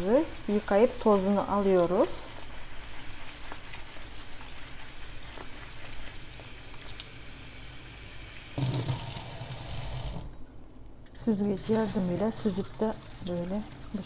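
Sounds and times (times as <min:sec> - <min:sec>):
water draining through oats: 0:00.0 - 0:14.0.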